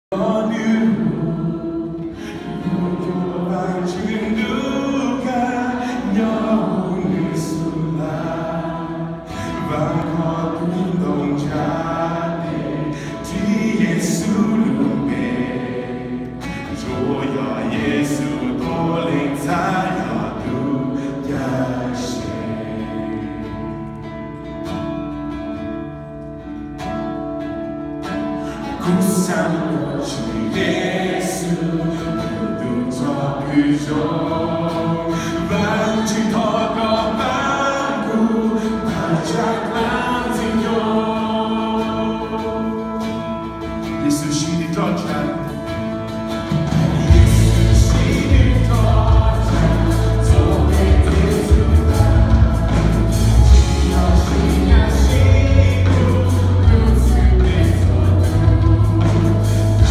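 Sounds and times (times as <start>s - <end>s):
congregation singing: 0.1s - 59.9s
live band accompaniment: 0.2s - 59.9s.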